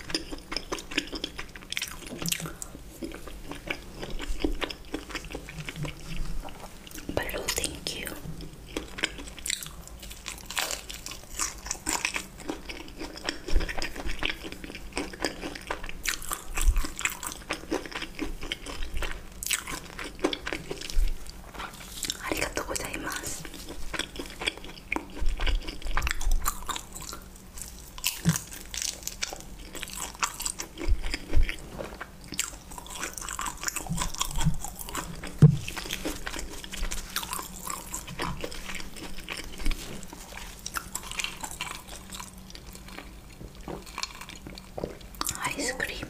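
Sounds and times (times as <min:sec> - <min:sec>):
person chewing crunchy food: 0:00.0 - 0:46.0.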